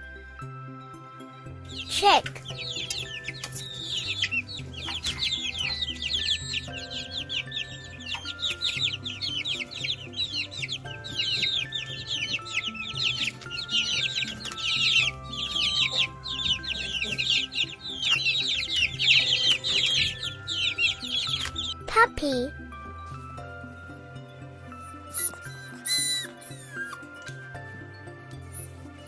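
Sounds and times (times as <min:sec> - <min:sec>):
simple background melody: 0:00.0 - 0:29.0
baby chicks peeping: 0:01.5 - 0:22.0, 0:23.6 - 0:28.8.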